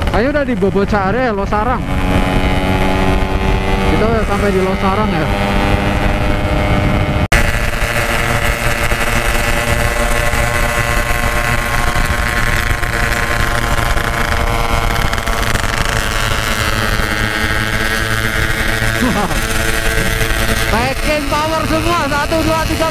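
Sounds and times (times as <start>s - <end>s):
two-stroke motorcycles cruising: 0.0s - 22.9s.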